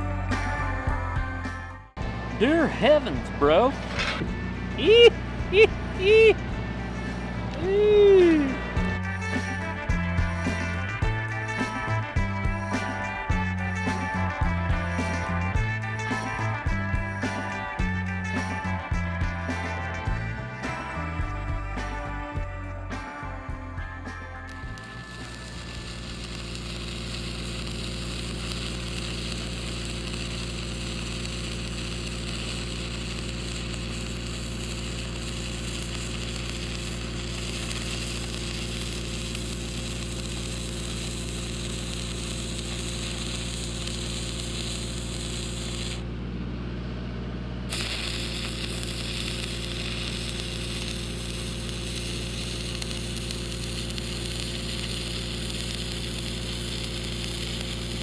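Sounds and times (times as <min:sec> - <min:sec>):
welder engine drone: 0:00.0 - 0:58.0
welding arc crackling and hissing: 0:02.4 - 0:19.7, 0:24.4 - 0:46.1, 0:47.7 - 0:58.0.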